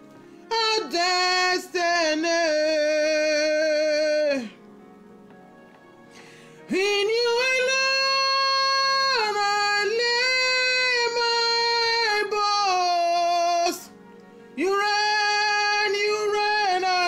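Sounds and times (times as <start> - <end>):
woman singing: 0.5 - 4.6, 6.7 - 14.0, 14.6 - 17.0.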